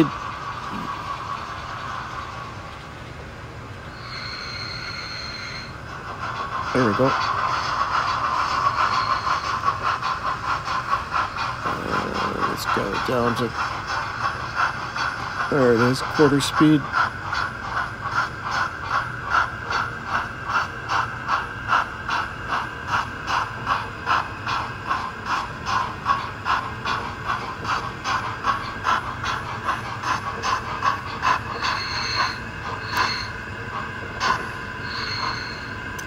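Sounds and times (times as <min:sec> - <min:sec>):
model steam locomotive chuffing: 0:00.0 - 0:36.0.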